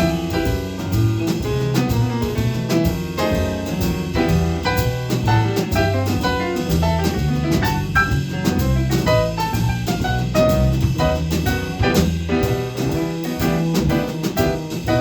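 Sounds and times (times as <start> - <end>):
drum kit cymbals: 0.0 - 15.0
low bass notes: 0.0 - 15.0
piano chords: 0.0 - 15.0.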